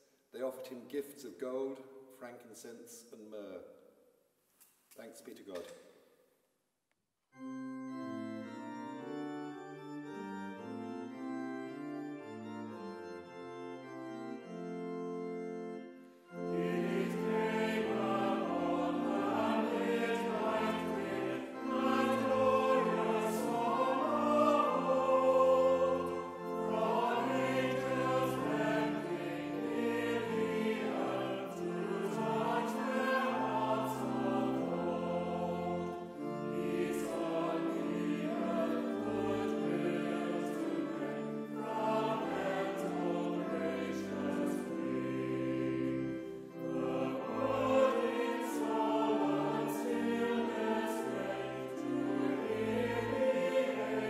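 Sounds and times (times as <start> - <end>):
church organ chords: 7.3 - 54.0
choir singing a carol: 7.4 - 54.0.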